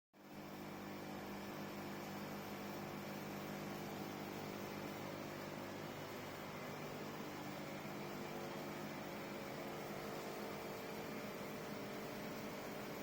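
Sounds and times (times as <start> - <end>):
machine humming and hissing: 0.2 - 13.0.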